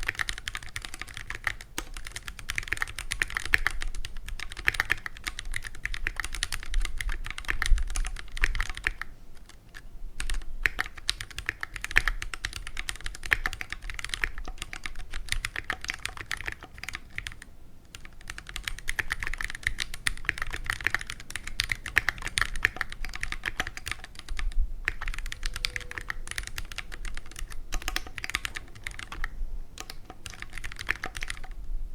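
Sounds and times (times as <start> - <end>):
mechanical keyboard typing: 0.0 - 31.6.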